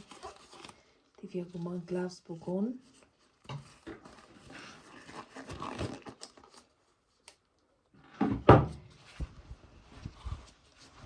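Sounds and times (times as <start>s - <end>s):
rustling and handling noises: 0.0s - 7.6s, 8.8s - 11.0s.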